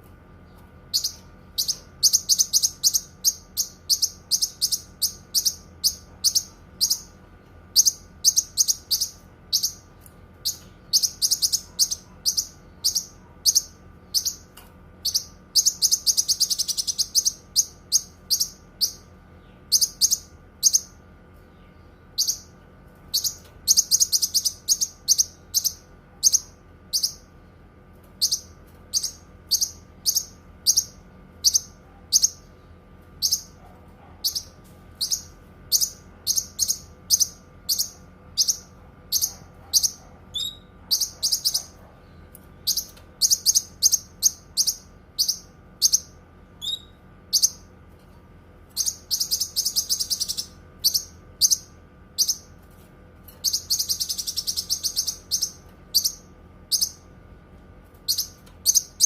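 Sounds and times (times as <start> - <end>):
bird chirping and trilling: 0.5 - 27.3, 28.2 - 32.6, 33.2 - 47.7, 48.7 - 52.6, 53.3 - 57.1, 58.0 - 59.0.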